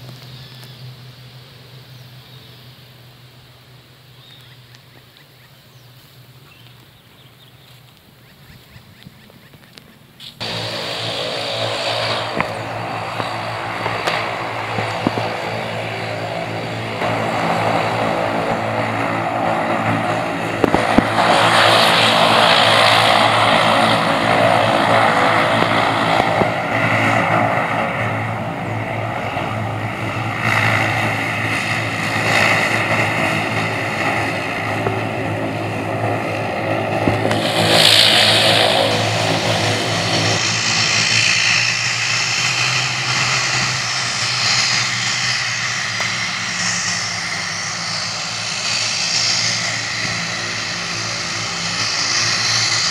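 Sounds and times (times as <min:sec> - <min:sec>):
hissing whine: 0:00.0 - 0:52.9
propeller engine drone: 0:00.0 - 0:52.9.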